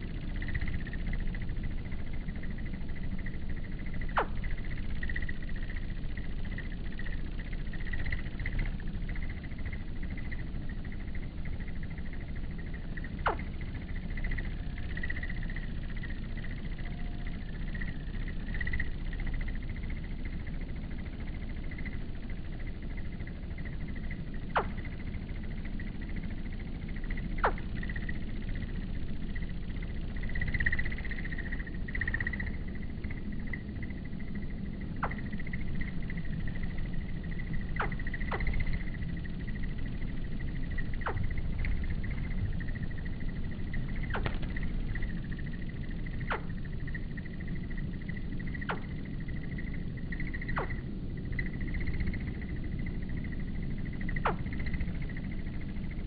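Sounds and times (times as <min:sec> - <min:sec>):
insect-like high hum: 0:00.0 - 0:56.0
low rumble: 0:00.0 - 0:56.0.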